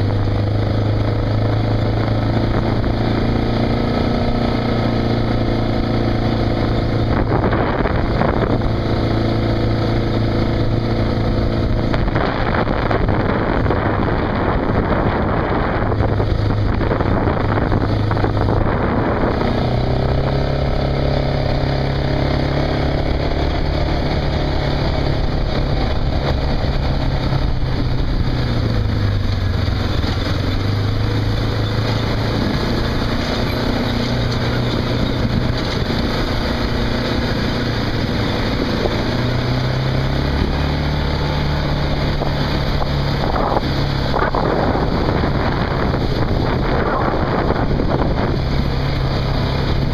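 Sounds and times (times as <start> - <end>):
tractor diesel engine under load: 0.0 - 49.9.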